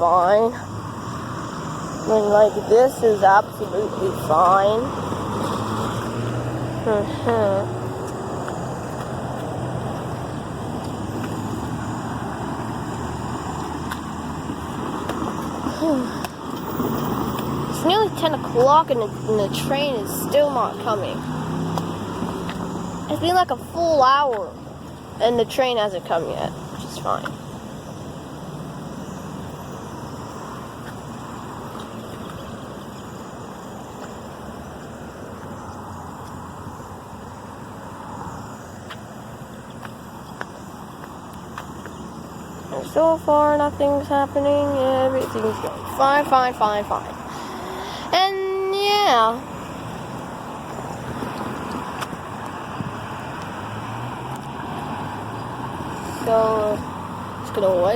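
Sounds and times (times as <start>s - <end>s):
cars going by: 0.0s - 57.9s
low engine hum: 0.0s - 57.9s
road traffic noise: 0.0s - 57.9s.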